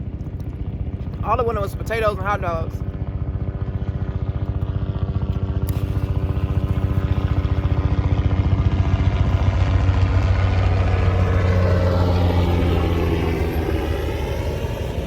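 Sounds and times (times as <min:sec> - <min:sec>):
helicopter rotor chop: 0:00.0 - 0:15.0.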